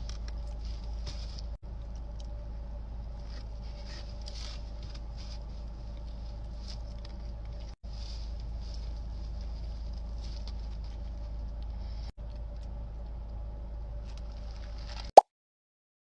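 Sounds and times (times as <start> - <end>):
low background hum: 0.0 - 15.1.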